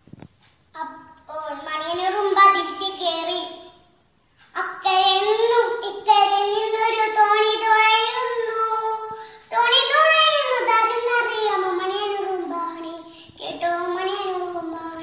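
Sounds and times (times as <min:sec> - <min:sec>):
girl singing unaccompanied: 0:00.7 - 0:15.0.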